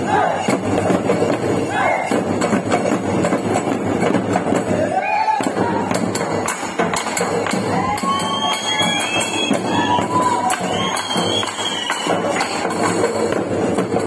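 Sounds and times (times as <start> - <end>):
barrel drums beaten fast: 0.0 - 14.0.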